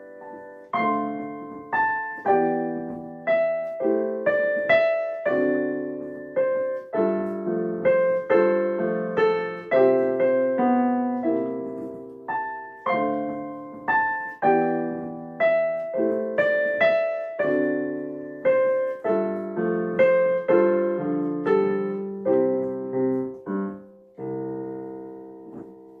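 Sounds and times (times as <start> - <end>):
solo piano chords: 0.0 - 26.0.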